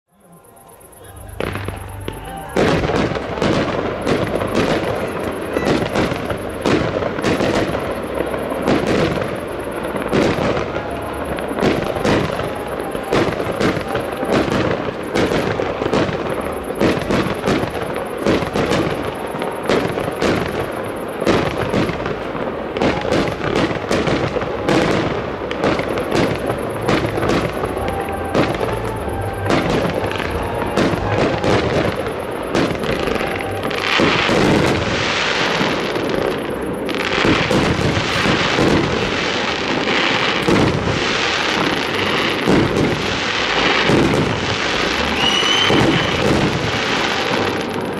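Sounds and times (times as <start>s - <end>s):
fireworks bursting: 0.1s - 47.9s
fireworks crackle: 0.1s - 47.9s.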